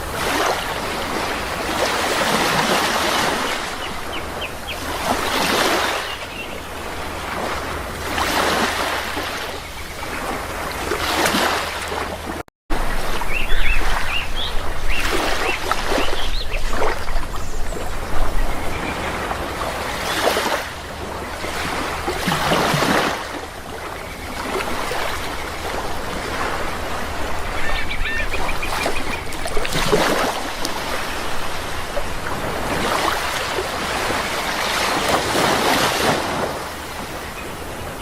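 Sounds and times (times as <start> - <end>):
sea waves breaking: 0.0 - 38.0.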